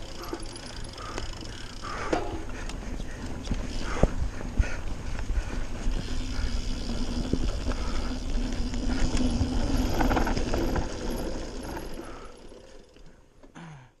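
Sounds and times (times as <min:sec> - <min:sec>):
bike knocking and rattling: 0:00.0 - 0:13.6
bike tyres on dirt trail: 0:00.0 - 0:13.8.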